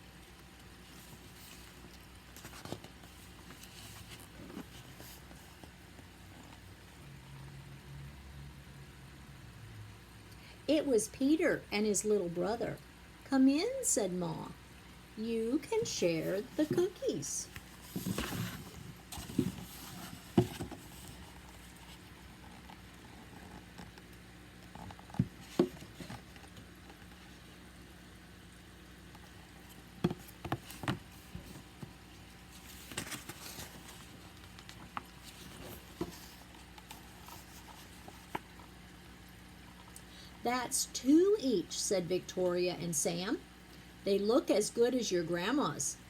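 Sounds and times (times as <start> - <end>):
steady low hum: 0.0 - 44.6.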